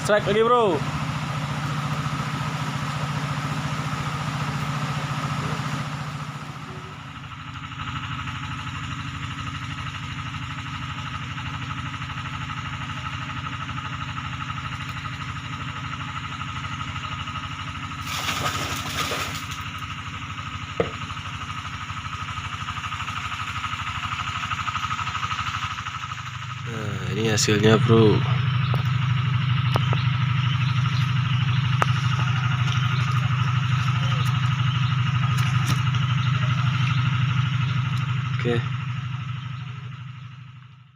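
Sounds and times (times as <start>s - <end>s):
small engine humming: 0.0s - 40.9s.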